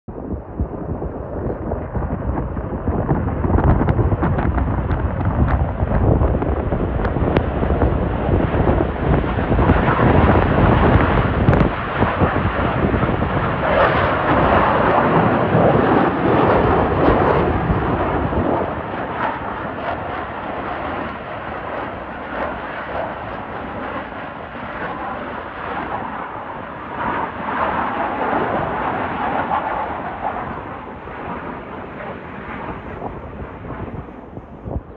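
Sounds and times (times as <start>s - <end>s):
fighter jet flying past: 0.1s - 34.9s.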